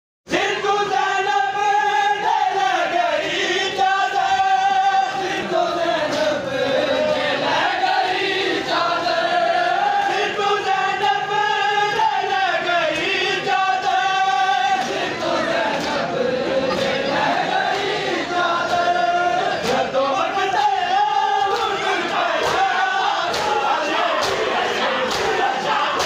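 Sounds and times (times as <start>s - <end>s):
men chanting a lament: 0.3s - 26.0s.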